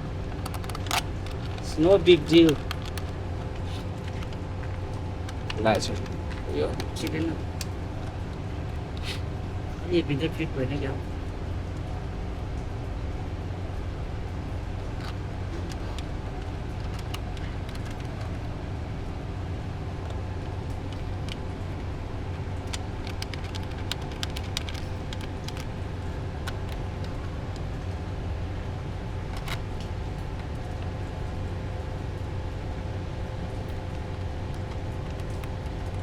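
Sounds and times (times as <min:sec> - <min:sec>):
low background hum: 0:00.0 - 0:36.0.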